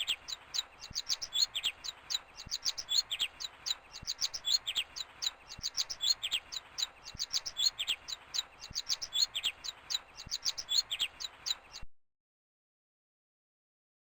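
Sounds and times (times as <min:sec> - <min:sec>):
baby birds chirping: 0:00.0 - 0:11.9.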